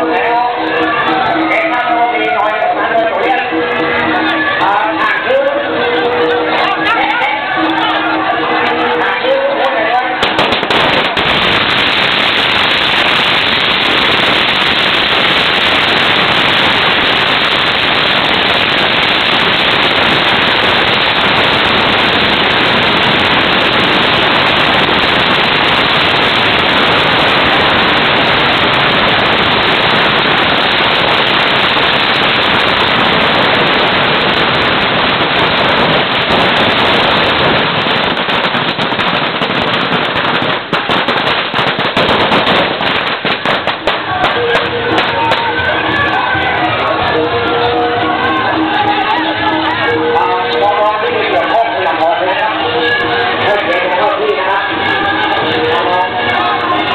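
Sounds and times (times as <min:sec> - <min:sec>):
firecrackers banging: 0:00.0 - 0:56.9.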